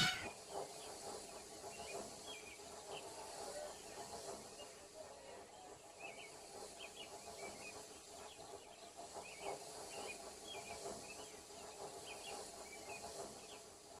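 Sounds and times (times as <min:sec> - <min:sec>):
small birds chirping: 0:00.0 - 0:13.8
steady hiss: 0:00.0 - 0:14.0.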